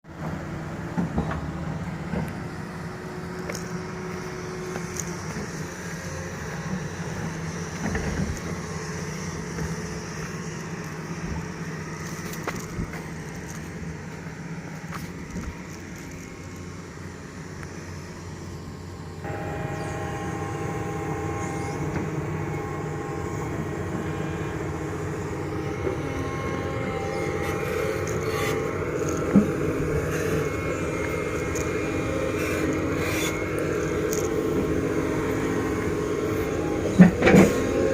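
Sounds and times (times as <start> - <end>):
excavator diesel engine running: 0.1 - 37.9
steady whine: 0.1 - 37.9.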